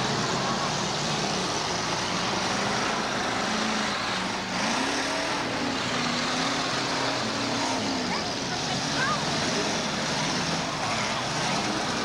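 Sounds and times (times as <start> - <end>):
car engines running together: 0.0 - 12.0
engine revving: 0.0 - 12.0.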